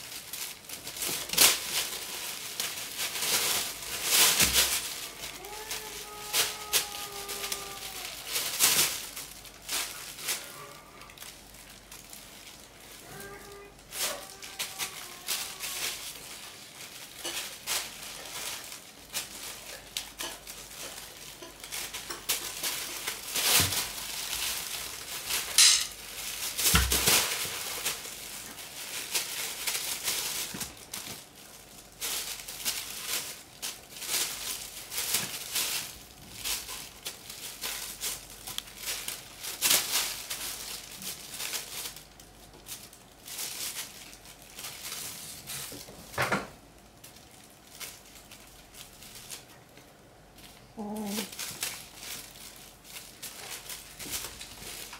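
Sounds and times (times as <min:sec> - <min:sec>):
plastic bag crinkling: 0:00.0 - 0:54.9.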